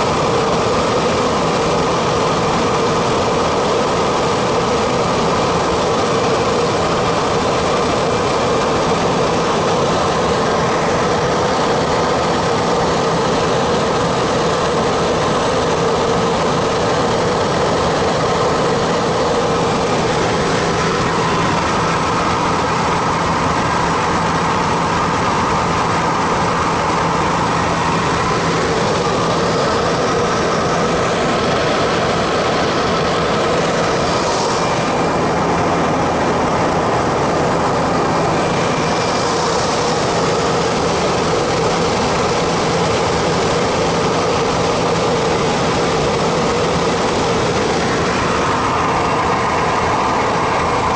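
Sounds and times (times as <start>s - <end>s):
aircraft engine and propeller drone: 0.0s - 50.9s.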